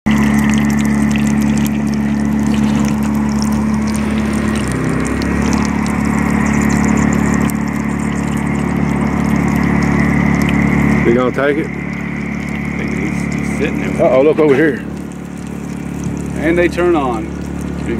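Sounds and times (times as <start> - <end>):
small engine droning: 0.2 - 17.9.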